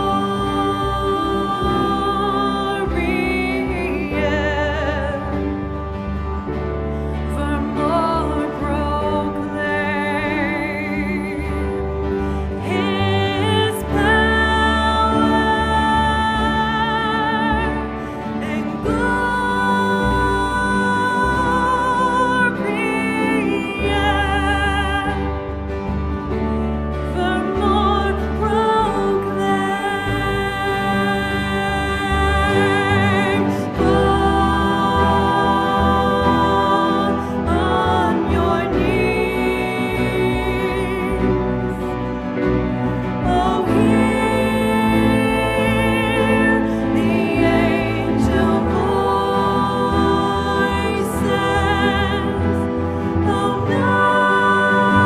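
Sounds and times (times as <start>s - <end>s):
person singing with vibrato: 0.0s - 55.0s
sustained instrumental accompaniment: 0.0s - 55.0s.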